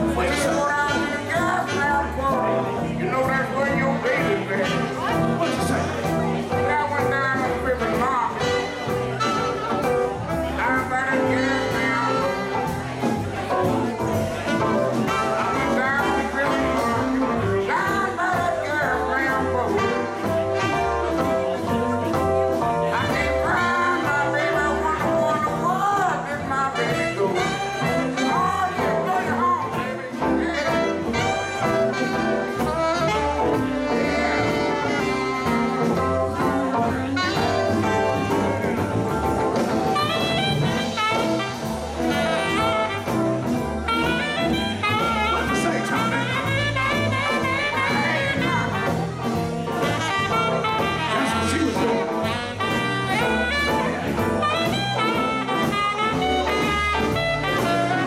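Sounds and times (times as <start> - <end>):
drums: 0.0 - 58.0
electric guitar: 0.0 - 58.0
keyboard: 0.0 - 58.0
saxophone: 0.0 - 58.0.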